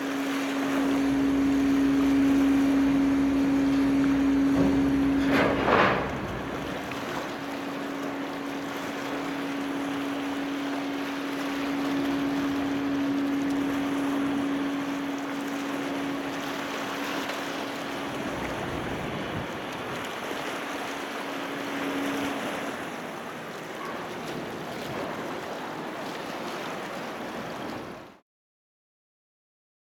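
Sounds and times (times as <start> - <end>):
ship machinery hum: 0.0 - 28.2
water noise: 0.0 - 28.2
wind: 0.0 - 28.2.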